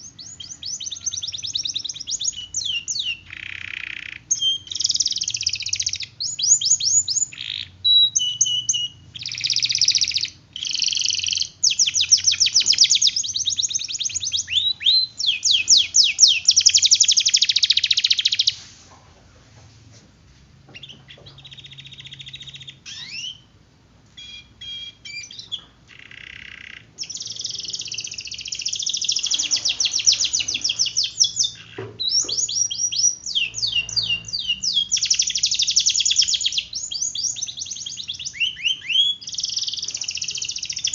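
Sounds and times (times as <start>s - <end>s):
canary singing trills: 0.0s - 18.6s, 20.7s - 40.9s.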